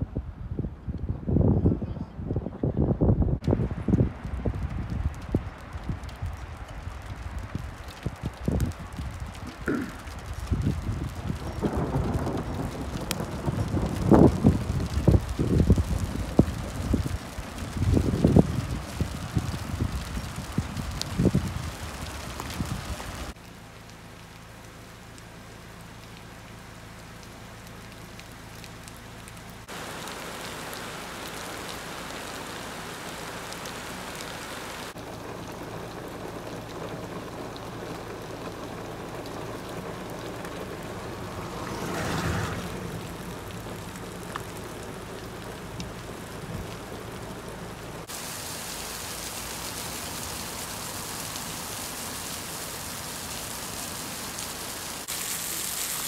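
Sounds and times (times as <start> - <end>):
steady rain falling: 3.4 - 56.0.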